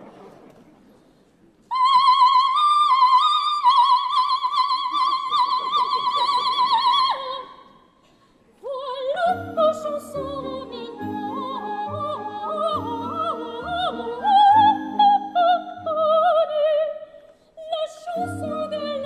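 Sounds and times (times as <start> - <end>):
soprano singing opera: 1.7 - 7.8, 8.6 - 19.0.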